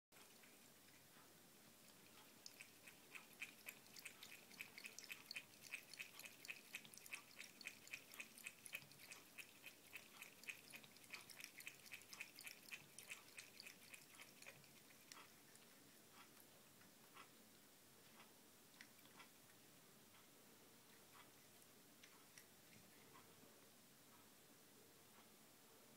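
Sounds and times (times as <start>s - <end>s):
cat lapping water: 0.2s - 17.4s, 18.0s - 19.8s, 20.9s - 23.2s.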